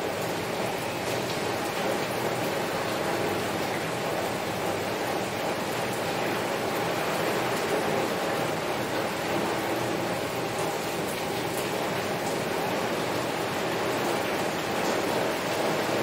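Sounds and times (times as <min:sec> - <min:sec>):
heavy rain on window: 0:00.0 - 0:16.0.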